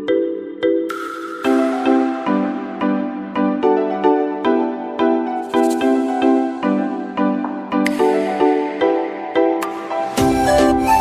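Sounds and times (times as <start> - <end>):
soft keyboard music: 0.0 - 11.0.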